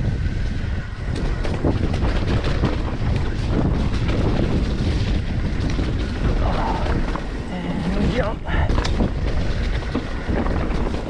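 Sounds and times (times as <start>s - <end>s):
bike knocks and rattles: 0.0s - 11.0s
tyres rumbling on dirt: 0.0s - 11.0s
wind buffeting microphone: 0.0s - 11.0s.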